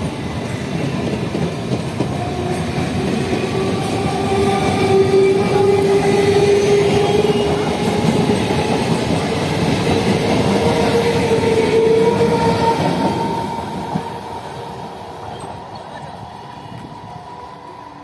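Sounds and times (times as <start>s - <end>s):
train coaches running past: 0.0s - 18.0s.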